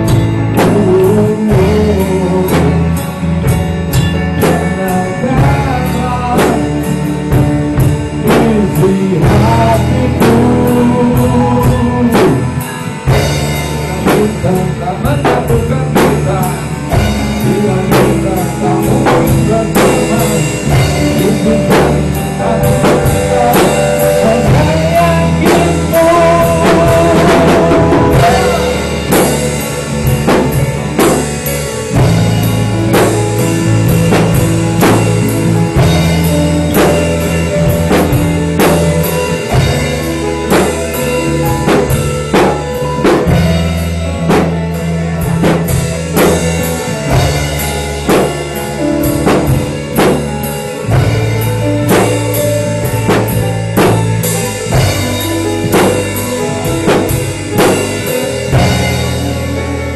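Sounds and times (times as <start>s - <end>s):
live band playing instrumental: 0.0s - 59.9s.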